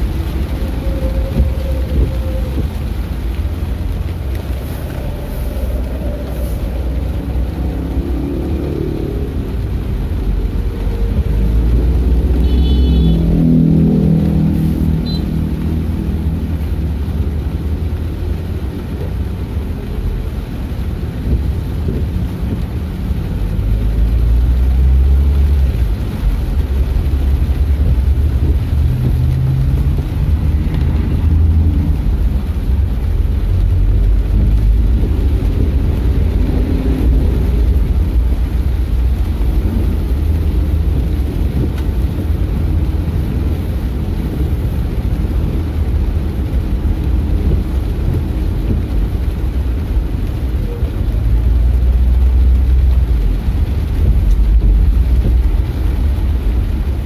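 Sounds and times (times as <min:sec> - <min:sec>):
car engine and tyres rumbling: 0:00.0 - 0:57.0
rain hiss: 0:00.0 - 0:57.0.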